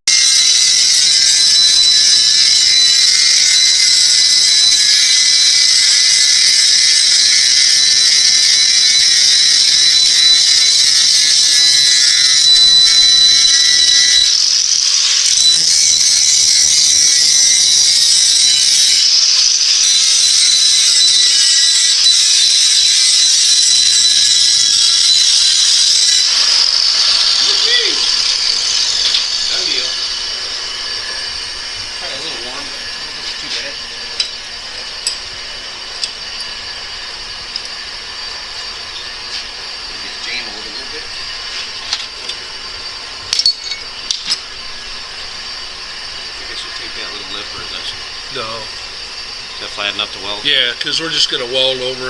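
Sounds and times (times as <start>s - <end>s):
angle grinder grinding steel: 0.1s - 52.0s.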